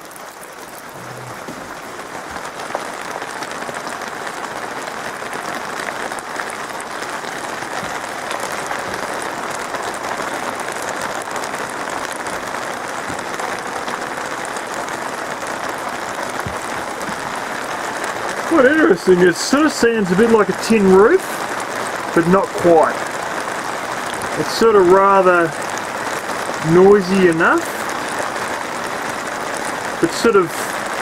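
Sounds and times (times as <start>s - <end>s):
rain pattering on a roof: 0.0s - 31.0s.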